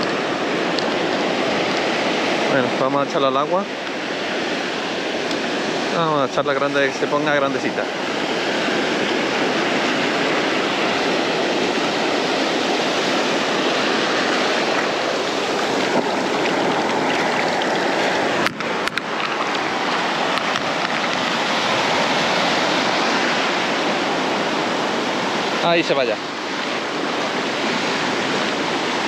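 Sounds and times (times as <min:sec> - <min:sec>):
sea waves breaking on beach: 0:00.0 - 0:29.0.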